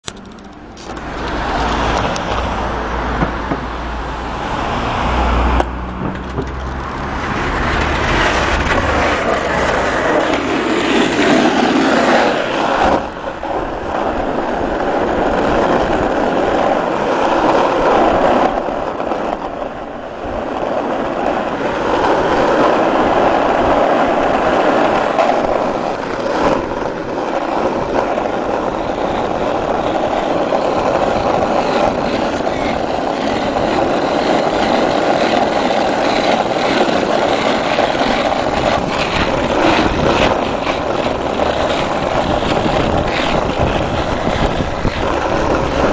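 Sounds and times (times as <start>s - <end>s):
skateboard wheels on asphalt: 0.0s - 45.9s
car passing: 0.1s - 45.9s.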